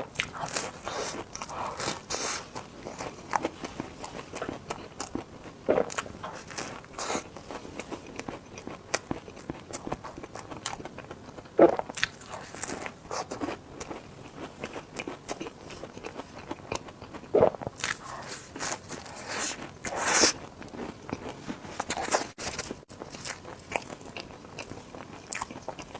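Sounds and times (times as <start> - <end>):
chewing with wet clicks: 0.1 - 25.9.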